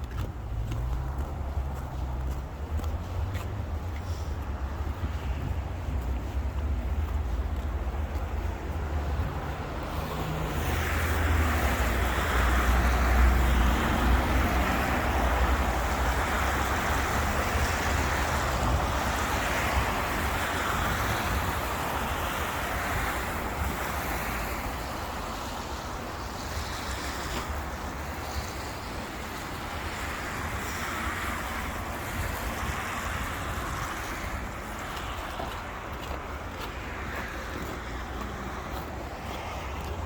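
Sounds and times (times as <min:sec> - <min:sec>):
low wind rumble on microphone: 0:00.0 - 0:40.0
road traffic noise: 0:00.0 - 0:40.0.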